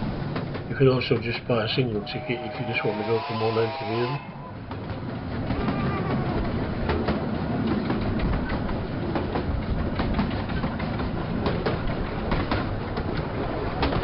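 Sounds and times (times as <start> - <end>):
wheels clicking over rail joints: 0.0 - 1.8, 4.5 - 14.0
railway coach rumbling: 0.0 - 14.0.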